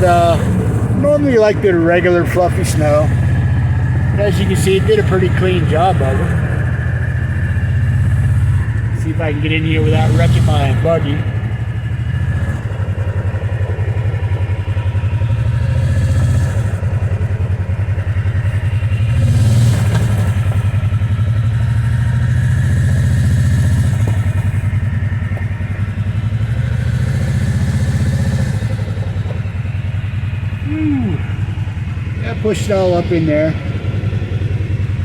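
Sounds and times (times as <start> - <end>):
utility vehicle engine running: 0.0 - 35.0.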